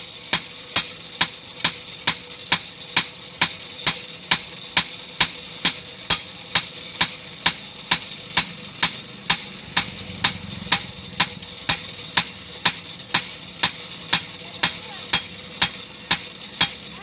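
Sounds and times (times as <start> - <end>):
hammer striking steel blade: 0.3 - 17.0.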